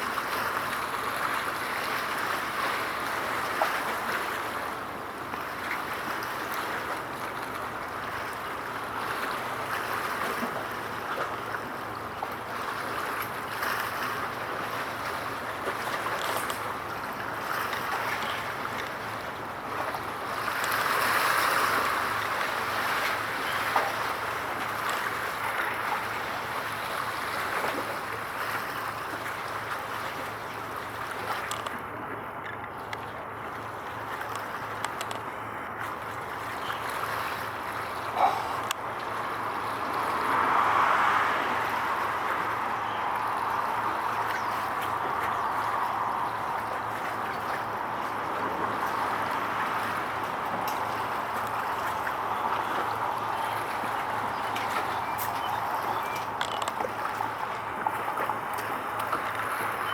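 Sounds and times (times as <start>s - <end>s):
rushing water: 0.0s - 59.9s
wind: 0.0s - 59.9s.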